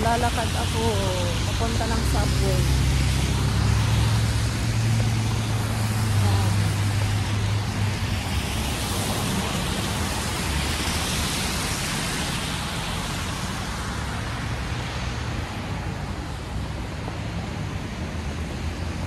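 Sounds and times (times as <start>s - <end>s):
traffic hiss on wet road: 0.0s - 19.0s.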